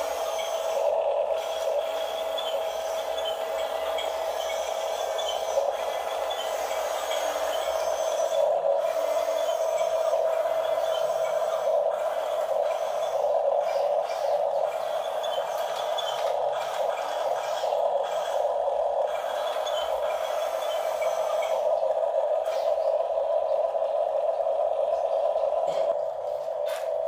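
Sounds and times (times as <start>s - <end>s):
toy electric motors whining: 0.0s - 27.0s.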